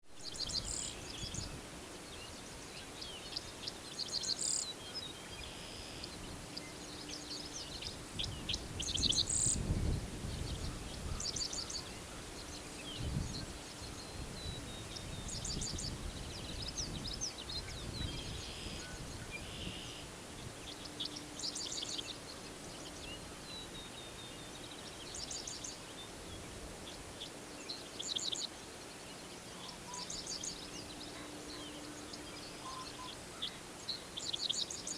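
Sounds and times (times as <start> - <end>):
songbirds trilling and chirping: 0.0 - 34.9.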